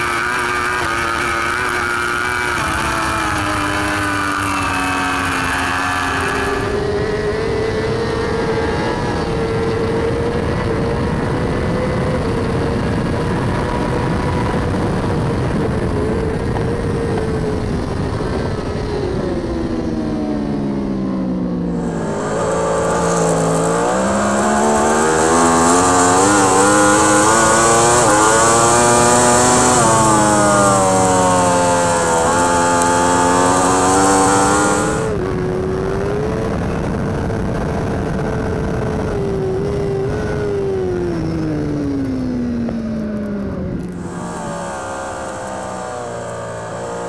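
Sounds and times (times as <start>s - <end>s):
motorcycle engine at high revs: 0.0s - 47.0s
motorcycle engine revving through upshifts: 0.0s - 47.0s.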